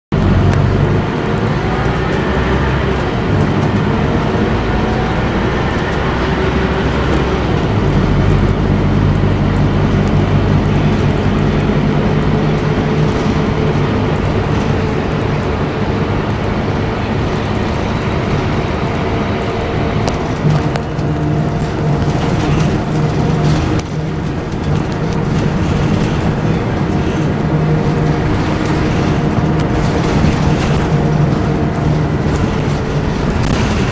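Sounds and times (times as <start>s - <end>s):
bus diesel engine running: 0.1s - 33.9s.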